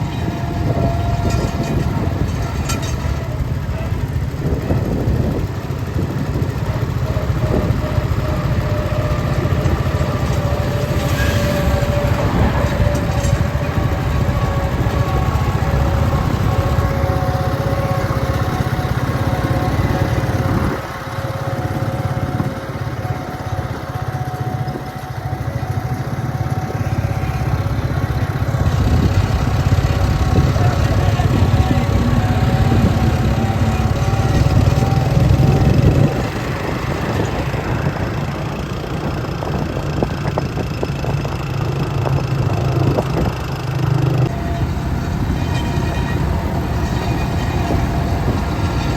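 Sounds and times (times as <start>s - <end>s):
tractor engine under load: 0.0s - 48.9s.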